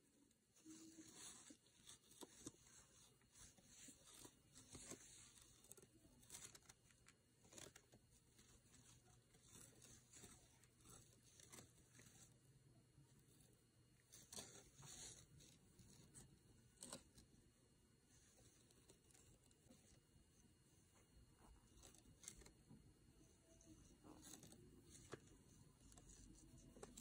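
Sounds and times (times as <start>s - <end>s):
yarn rustling on crochet hook: 0.0s - 27.0s.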